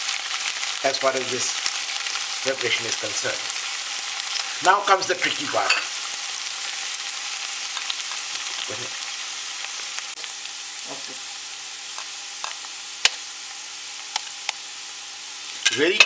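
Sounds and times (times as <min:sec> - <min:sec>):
oil sizzling in a frying pan: 0:00.0 - 0:16.0.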